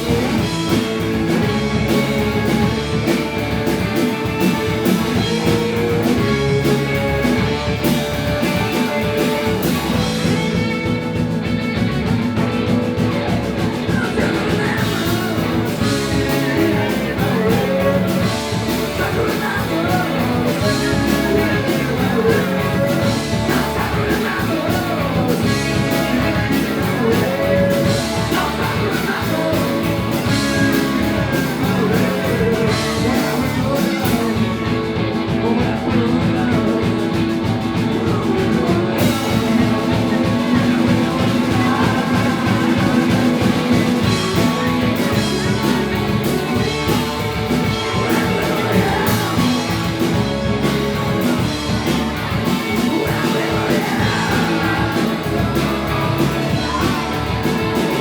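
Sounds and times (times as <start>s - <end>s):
drums keeping a steady beat: 0.0s - 58.0s
guitar chords: 0.0s - 58.0s
person singing: 0.0s - 58.0s.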